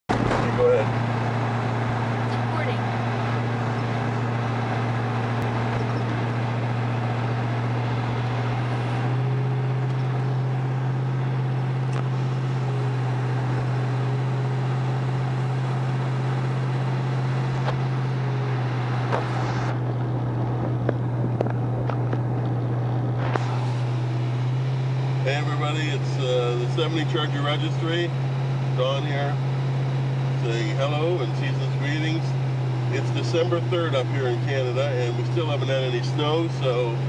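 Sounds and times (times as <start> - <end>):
car engine cruising: 0.0 - 37.0.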